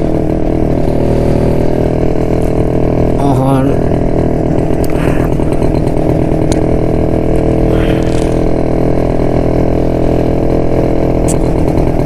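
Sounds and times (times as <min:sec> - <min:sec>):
two-stroke motorcycle engine running: 0:00.0 - 0:12.0.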